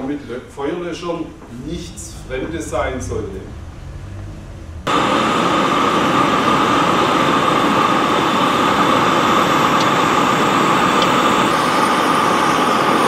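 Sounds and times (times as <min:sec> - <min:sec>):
engine running: 0:02.0 - 0:13.0.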